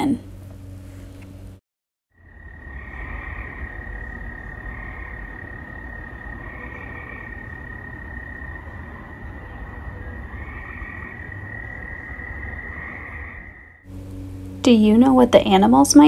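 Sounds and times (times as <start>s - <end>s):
crickets calling: 2.1s - 16.0s
tree frogs trilling: 2.1s - 16.0s.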